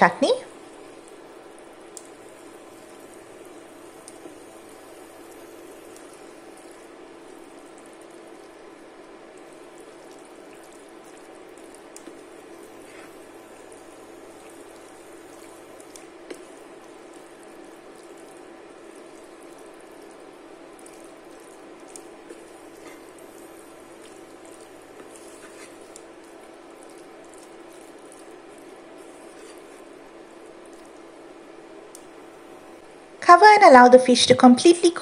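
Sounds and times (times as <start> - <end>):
sauce bubbling in a pan: 0.1 - 33.2.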